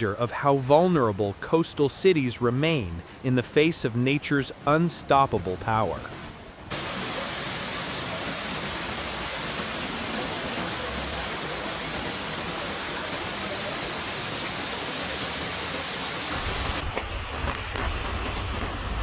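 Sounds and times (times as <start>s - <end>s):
torrential rain and floodwater: 0.0s - 19.0s.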